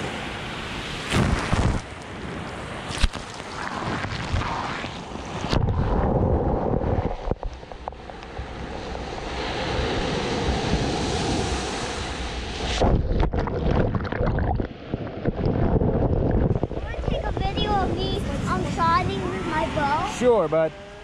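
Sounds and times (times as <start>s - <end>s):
wind on microphone: 0.0s - 20.4s
sea waves breaking: 0.0s - 21.0s
water splashing over microphone: 1.0s - 2.0s, 2.8s - 20.2s.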